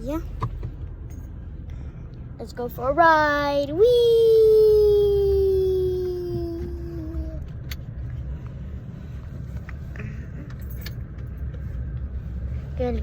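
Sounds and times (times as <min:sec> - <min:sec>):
car cabin rumble: 0:00.0 - 0:01.4, 0:02.4 - 0:13.0.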